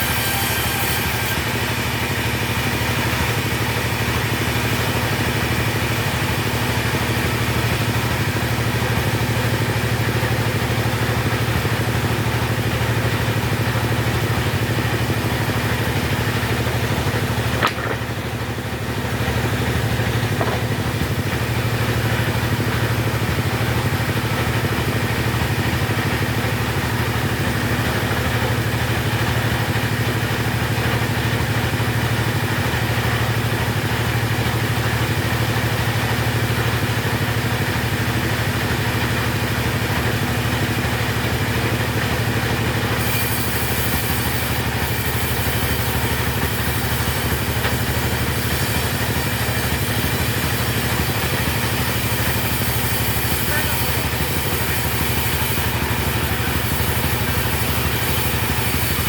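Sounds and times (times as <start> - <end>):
two-stroke chainsaw engine running: 0.0 - 59.0.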